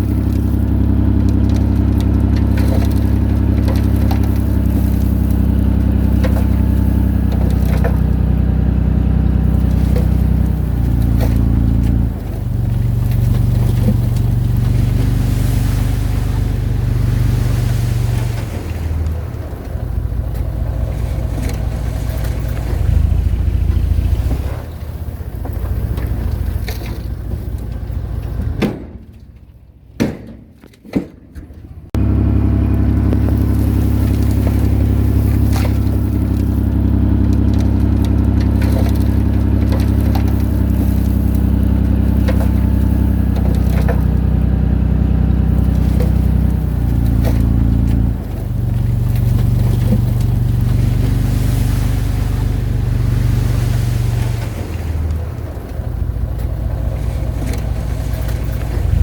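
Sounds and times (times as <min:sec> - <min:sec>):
diesel engine of heavy machinery: 0:00.0 - 0:30.0, 0:31.5 - 0:59.0.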